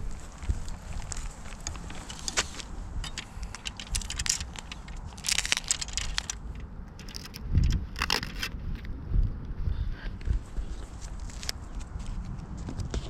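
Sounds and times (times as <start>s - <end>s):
scraping and rustling handling noise: 0.0s - 8.6s, 10.6s - 13.0s.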